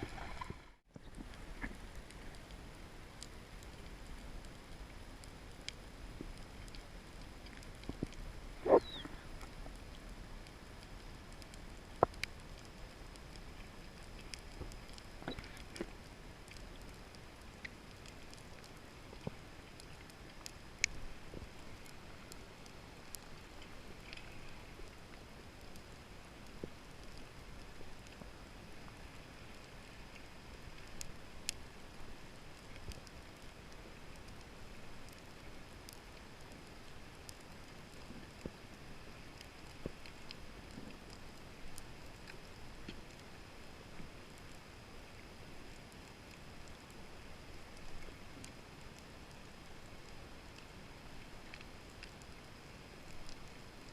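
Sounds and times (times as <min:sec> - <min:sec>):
sharp underwater clicks and crackles: 0:00.0 - 0:53.9
underwater low hiss: 0:00.0 - 0:53.9.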